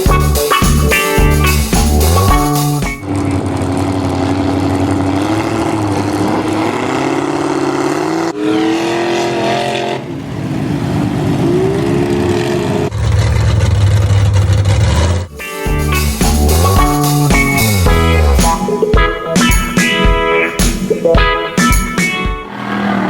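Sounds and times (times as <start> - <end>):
truck engines revving: 0.3 - 18.8, 22.4 - 23.0.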